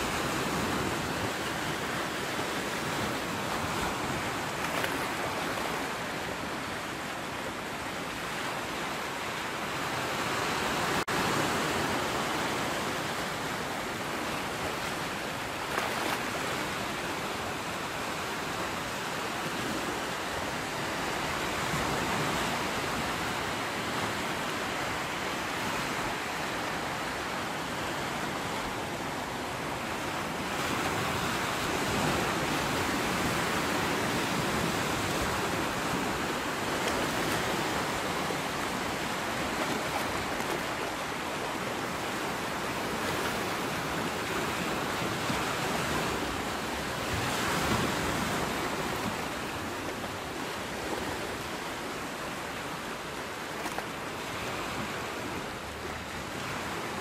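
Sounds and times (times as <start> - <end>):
sea surf washing on shore: 0.0 - 57.0.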